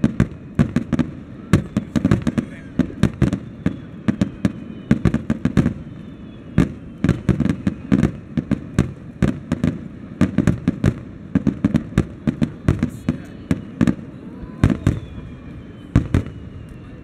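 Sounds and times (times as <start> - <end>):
fireworks booming: 0.0 - 17.0.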